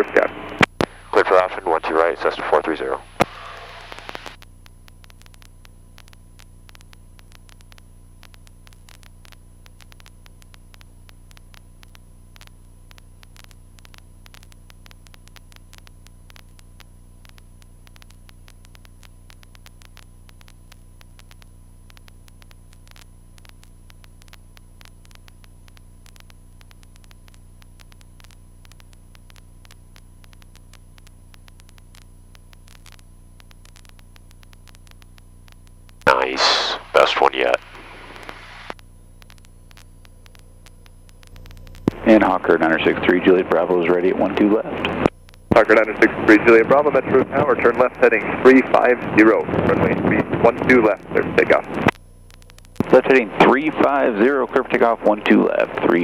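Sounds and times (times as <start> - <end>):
crackling static: 0.0 - 56.0
faint electrical hum: 0.0 - 56.0.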